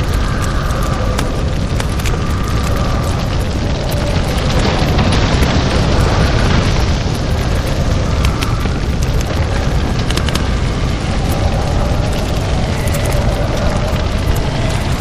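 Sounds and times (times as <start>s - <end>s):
crackles: 0.0s - 15.0s
monster rumbling roar: 0.0s - 15.0s.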